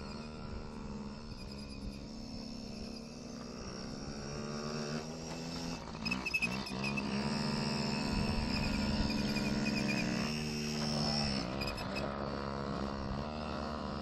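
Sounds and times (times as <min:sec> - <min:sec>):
mini dirt bike engine buzzing: 0:00.0 - 0:14.0.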